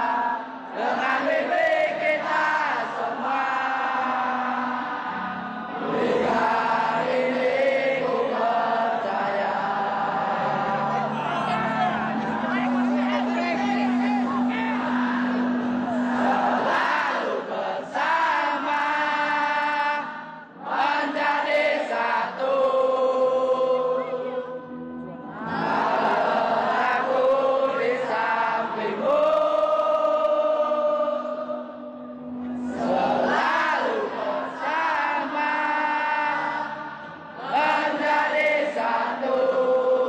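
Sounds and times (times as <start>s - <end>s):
football crowd chanting: 0.0s - 24.7s, 25.4s - 40.0s.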